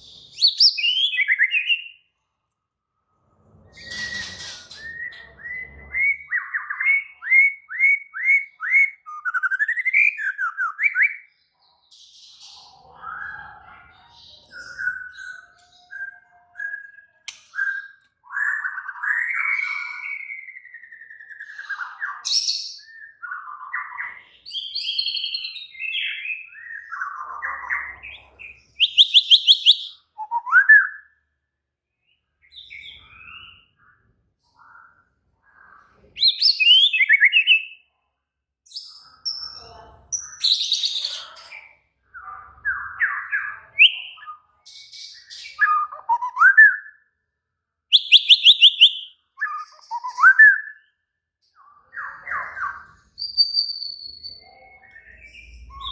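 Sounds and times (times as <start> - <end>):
bird singing whistles and trills: 0.0 - 2.1, 3.8 - 11.4, 12.2 - 31.2, 32.4 - 34.0, 34.6 - 37.9, 42.2 - 47.1, 47.9 - 55.9.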